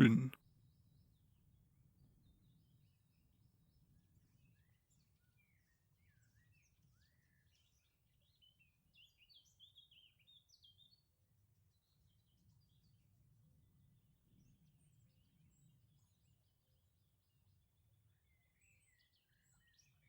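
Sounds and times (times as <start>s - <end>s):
songbirds chirping and warbling: 2.0s - 20.0s.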